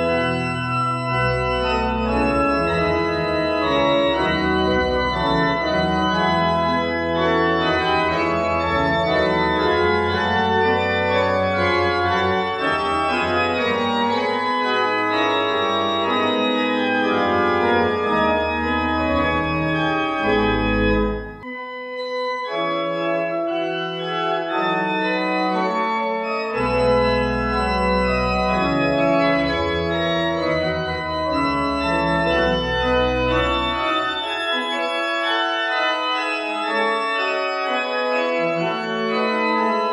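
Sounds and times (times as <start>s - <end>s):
church organ playing: 0.0s - 39.9s.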